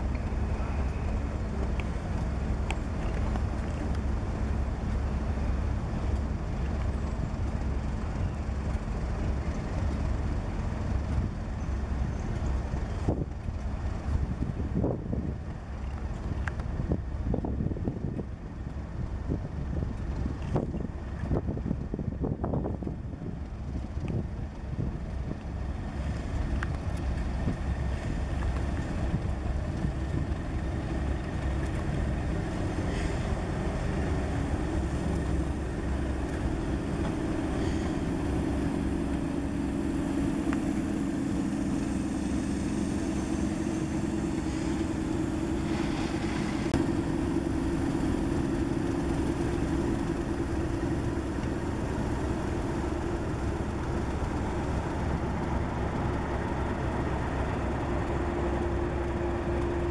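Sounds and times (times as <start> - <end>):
diesel locomotive engine running: 0.0 - 59.9.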